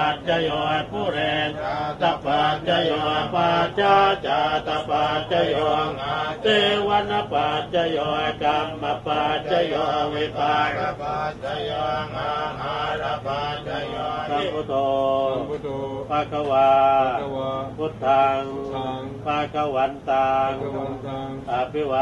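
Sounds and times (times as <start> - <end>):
monks chanting: 0.0 - 22.0.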